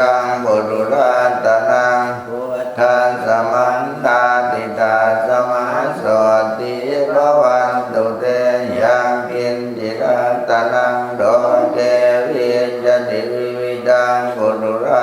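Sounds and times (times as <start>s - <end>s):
group of voices chanting: 0.0s - 15.0s.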